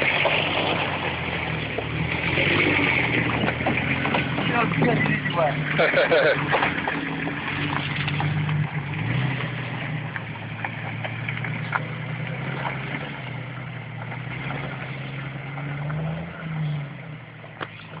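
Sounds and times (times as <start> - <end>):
car engine at low revs: 0.0 - 18.0.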